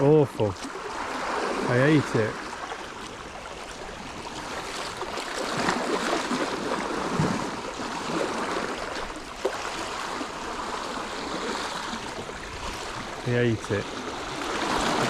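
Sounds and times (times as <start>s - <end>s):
sea water lapping against rocks: 0.0s - 15.0s.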